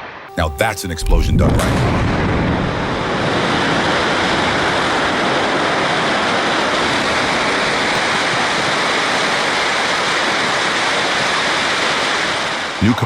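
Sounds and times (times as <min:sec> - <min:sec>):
steady loud rushing noise: 0:01.3 - 0:12.8.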